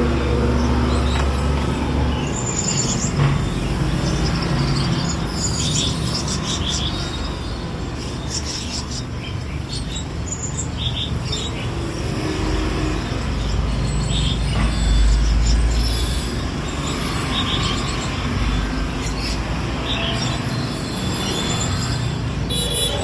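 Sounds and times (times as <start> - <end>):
birds chirping: 0.0 - 23.0
road traffic rumble: 0.0 - 23.0.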